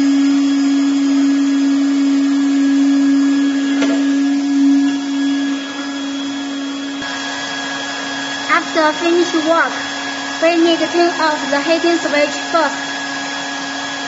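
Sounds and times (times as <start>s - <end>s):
hot air welder motor and blower hum: 0.0s - 14.0s.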